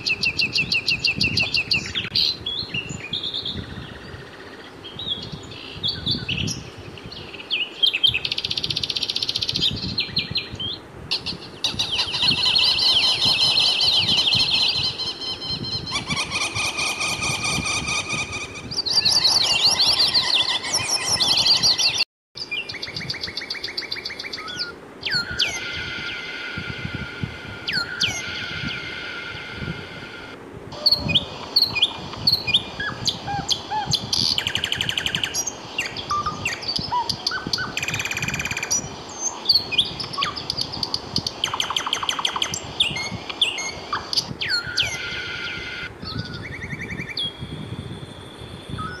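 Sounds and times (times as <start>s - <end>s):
downward-sweeping bird calls: 0.0s - 47.5s
birds singing: 0.0s - 47.7s.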